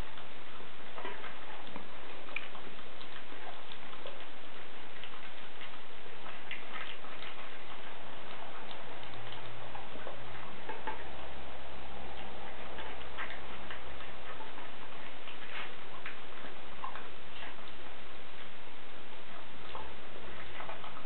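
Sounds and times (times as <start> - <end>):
puppy eating from bowl: 0.0 - 21.0
steady hiss: 0.0 - 21.0.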